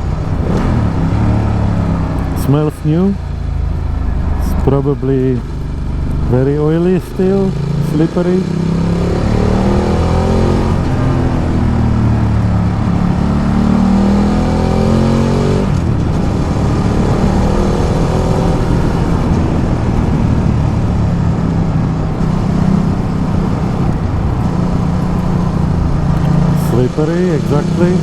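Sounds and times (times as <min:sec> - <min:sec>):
motorcycle engine accelerating: 0:00.0 - 0:28.0
wind and road noise: 0:00.0 - 0:28.0.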